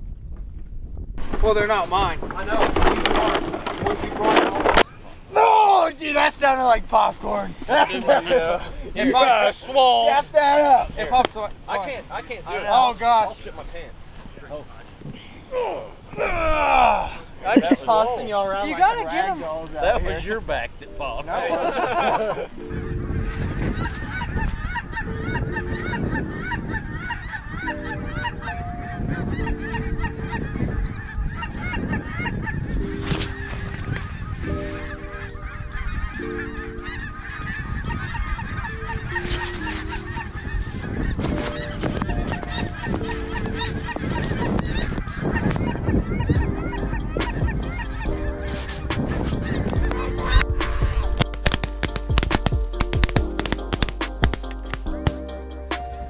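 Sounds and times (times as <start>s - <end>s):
geese honking: 1.5s - 14.8s, 17.2s - 56.0s.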